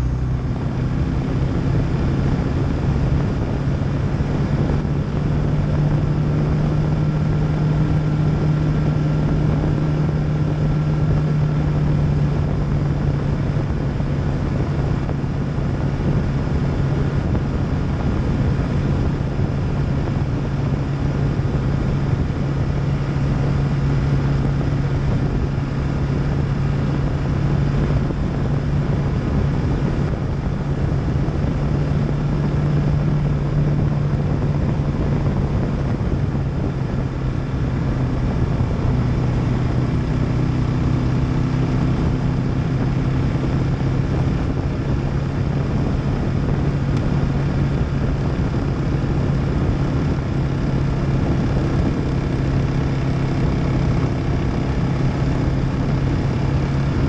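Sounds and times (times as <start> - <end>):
motorcycle engine droning: 0.0 - 57.0
wind rushing over microphone: 0.0 - 57.0.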